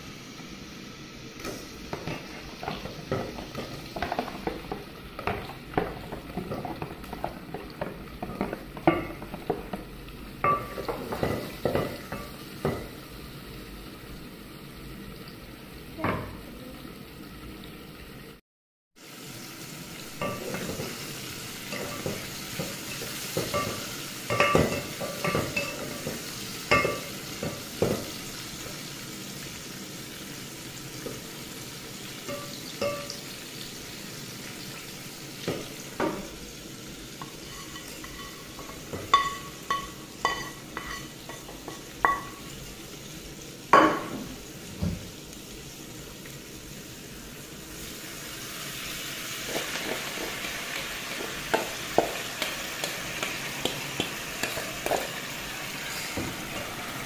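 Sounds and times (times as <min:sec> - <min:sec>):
vegetables sizzling in a pot: 0:00.0 - 0:18.4, 0:19.0 - 0:57.0.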